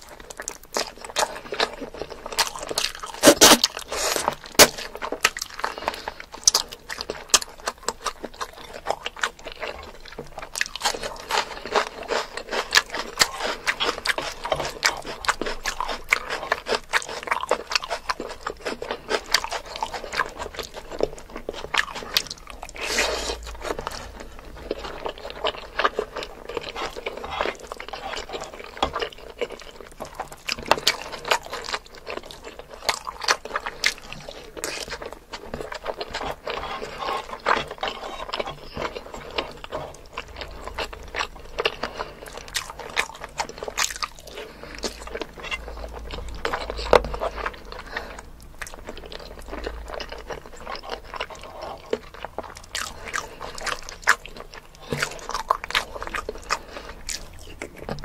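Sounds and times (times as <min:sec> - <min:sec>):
chewing with wet mouth clicks: 0:00.0 - 0:58.0.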